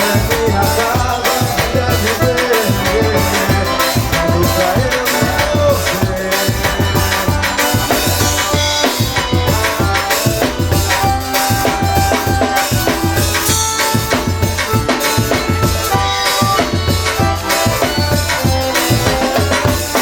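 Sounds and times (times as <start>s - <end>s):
accordion melody: 0.0s - 20.0s
steady drum beat: 0.0s - 20.0s.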